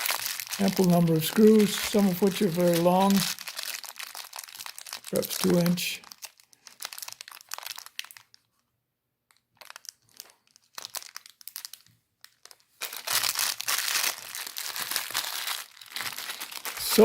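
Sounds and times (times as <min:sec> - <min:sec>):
plastic packaging crinkling: 0:00.0 - 0:08.6, 0:09.3 - 0:17.0.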